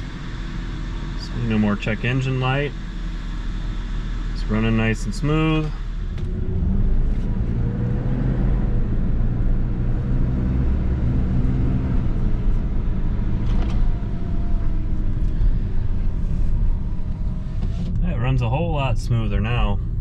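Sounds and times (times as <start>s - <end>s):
car engine humming: 0.0s - 20.0s
road noise: 0.0s - 20.0s.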